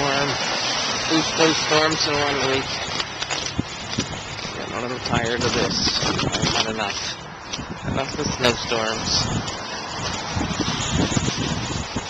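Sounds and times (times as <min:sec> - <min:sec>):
wind buffeting microphone: 0:01.7 - 0:12.0.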